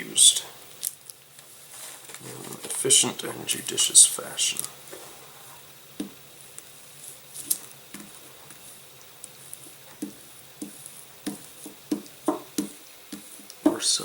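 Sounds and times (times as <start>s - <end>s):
film crinkling and tapping: 0.7s - 5.1s, 6.0s - 6.7s, 7.4s - 13.9s.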